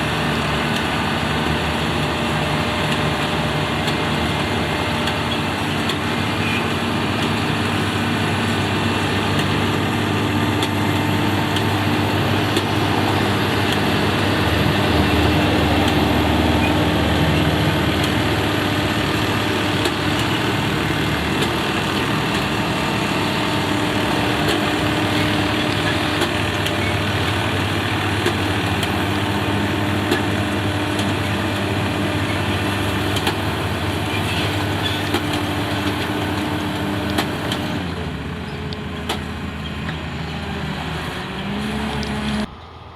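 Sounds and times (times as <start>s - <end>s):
machinery engines droning: 0.0s - 42.9s.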